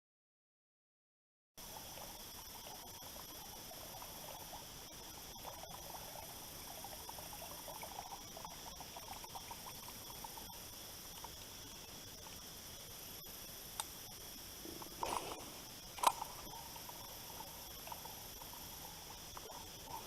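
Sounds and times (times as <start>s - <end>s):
steady high hiss: 1.6s - 20.0s
water trickling and lapping: 1.6s - 20.0s.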